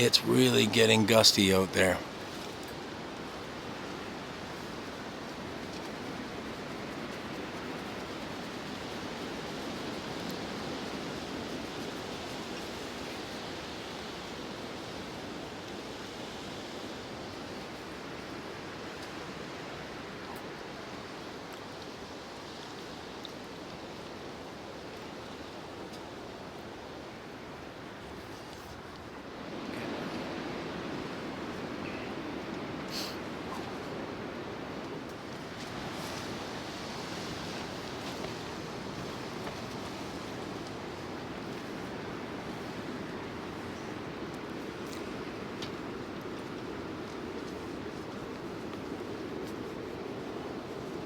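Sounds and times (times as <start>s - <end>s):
gusty wind shaking a tent: 1.8s - 51.0s.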